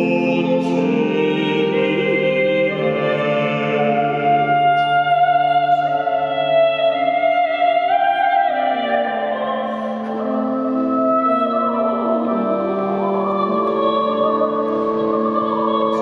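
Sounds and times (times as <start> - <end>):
string ensemble playing chords: 0.0 - 7.1, 9.0 - 16.0.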